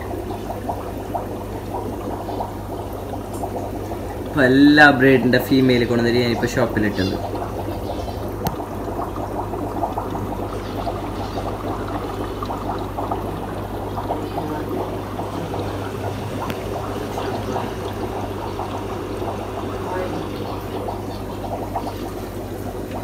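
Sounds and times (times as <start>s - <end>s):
sponge filter bubbling: 0.0s - 23.0s
steady low hum: 0.0s - 23.0s.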